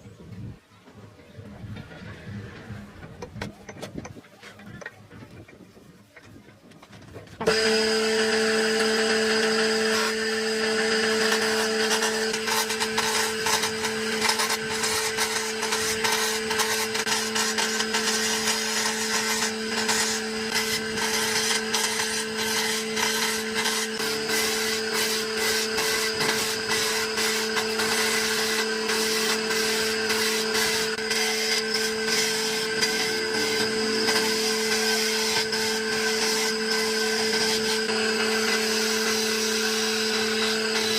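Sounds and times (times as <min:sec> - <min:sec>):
cutter scraping against wood: 0:06.8 - 0:40.9
power tool motor hum: 0:07.4 - 0:40.9.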